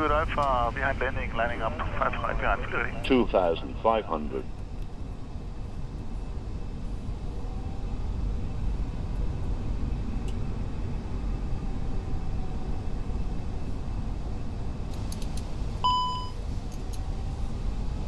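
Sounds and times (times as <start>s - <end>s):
aircraft engine rumble: 0.0s - 18.0s.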